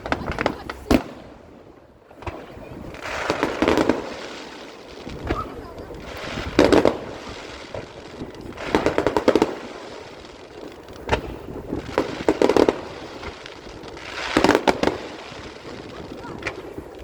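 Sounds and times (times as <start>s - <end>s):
fireworks crackling: 0.0s - 17.0s.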